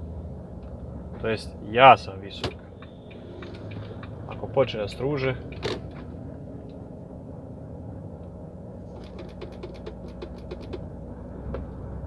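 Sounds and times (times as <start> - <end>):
truck engine rumble: 0.0 - 12.0.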